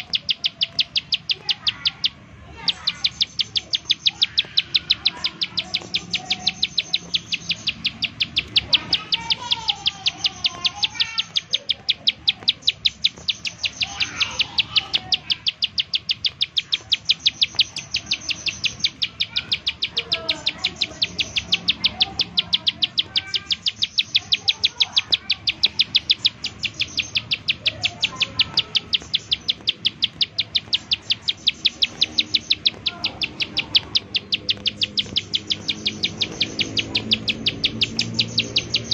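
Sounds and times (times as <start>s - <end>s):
bird high ticking song: 0.0s - 38.9s
faint lower bird chirps: 0.0s - 38.9s.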